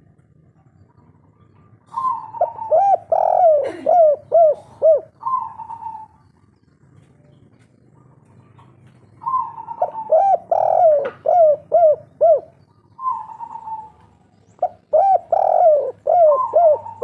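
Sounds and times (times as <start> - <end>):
dove cooing: 0.0 - 6.6, 7.9 - 17.0.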